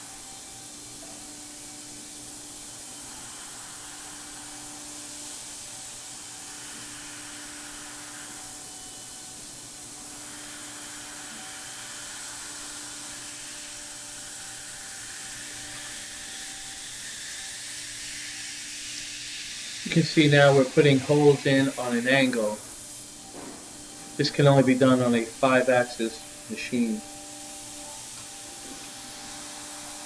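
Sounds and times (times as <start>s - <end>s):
router spindle hissing: 0.0s - 30.0s.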